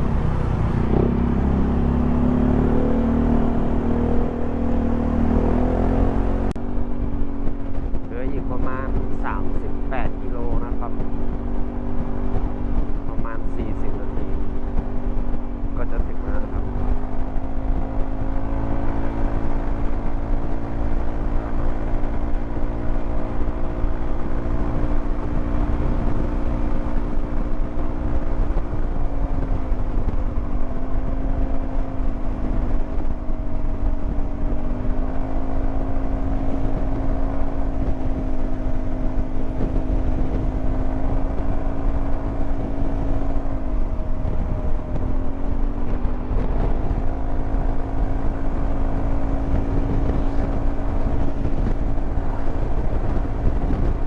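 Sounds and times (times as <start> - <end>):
low rumble: 0.0 - 54.0
scooter engine cruising: 0.0 - 54.0.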